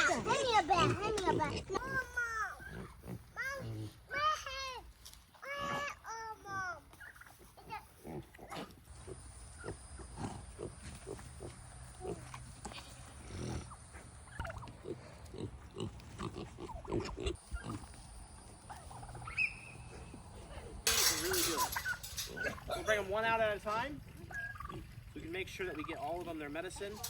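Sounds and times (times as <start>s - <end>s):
farm animals grunting: 0.0s - 4.2s, 7.2s - 27.0s.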